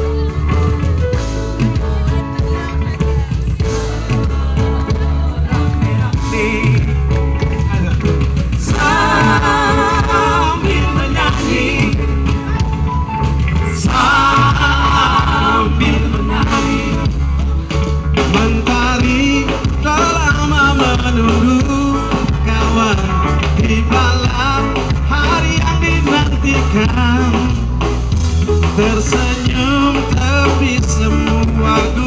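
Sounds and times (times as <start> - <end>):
electric guitar: 0.0 - 32.0
steady bass line: 0.0 - 32.0
lead and backing singers: 0.9 - 27.8.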